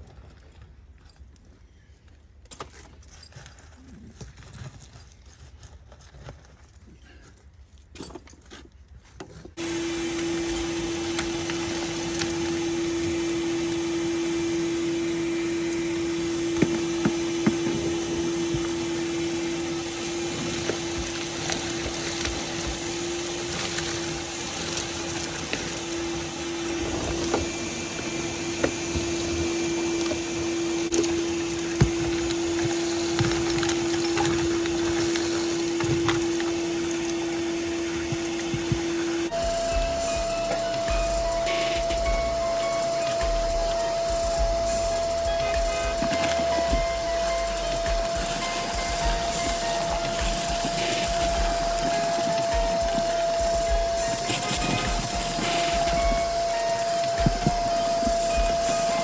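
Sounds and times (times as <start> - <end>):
vacuum cleaner humming: 9.6 - 59.0.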